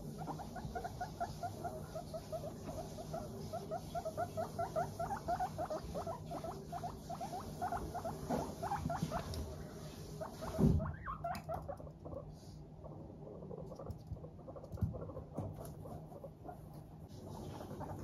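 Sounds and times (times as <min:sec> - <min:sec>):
guinea pig chutting: 0:00.0 - 0:18.0.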